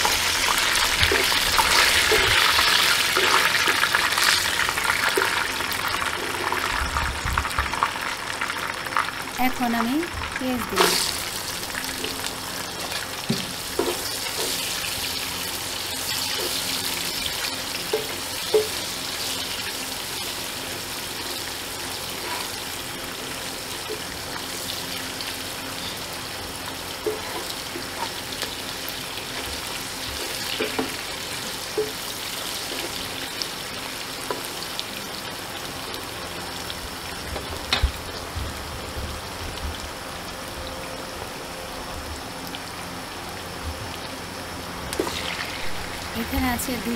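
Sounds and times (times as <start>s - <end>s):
onions sizzling in oil: 0.0s - 46.9s.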